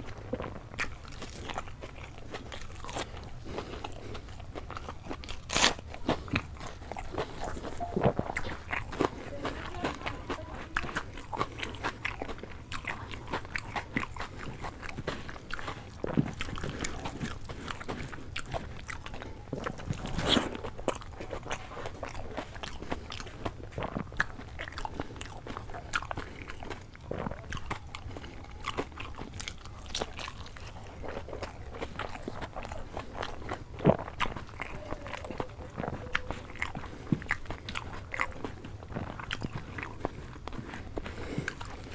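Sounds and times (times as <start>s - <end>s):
loud crunches: 0.0s - 9.3s, 10.8s - 41.9s
person chewing food: 0.0s - 41.9s.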